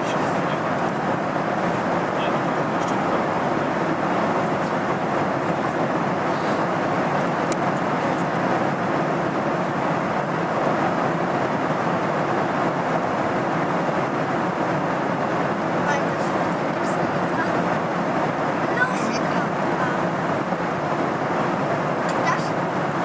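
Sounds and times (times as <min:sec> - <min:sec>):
airliner cabin noise: 0:00.0 - 0:23.0.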